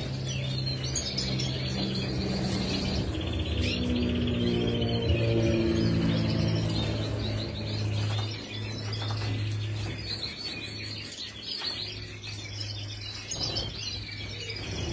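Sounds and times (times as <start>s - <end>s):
finches twittering: 0.0s - 14.9s.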